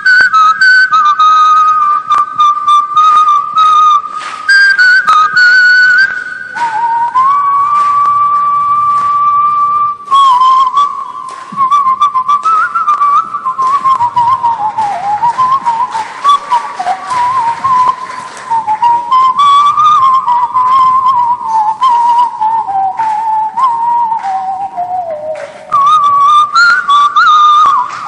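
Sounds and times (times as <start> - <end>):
person whistling: 0.0 - 28.0.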